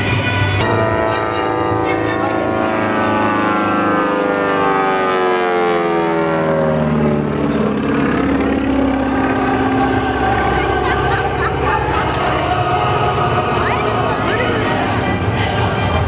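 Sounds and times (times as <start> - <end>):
aircraft engine flying past: 0.0 - 16.0.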